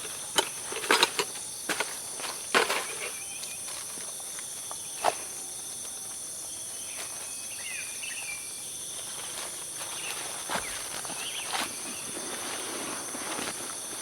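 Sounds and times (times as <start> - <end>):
crickets chorus: 0.0 - 14.0.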